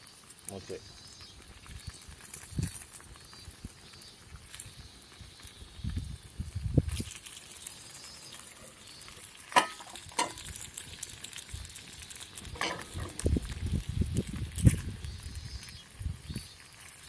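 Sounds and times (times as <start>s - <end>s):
bacon and eggs sizzling: 0.0s - 17.0s.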